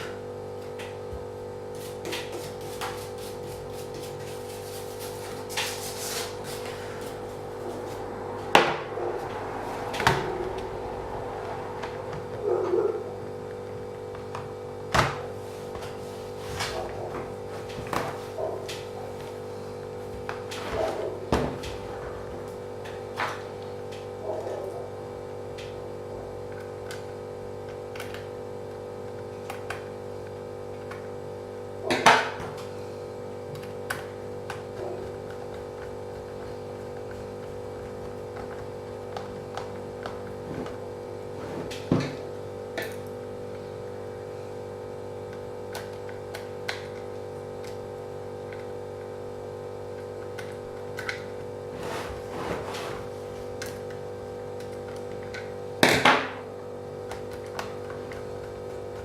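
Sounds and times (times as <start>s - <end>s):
steady multi-tone hum: 0.0s - 59.0s.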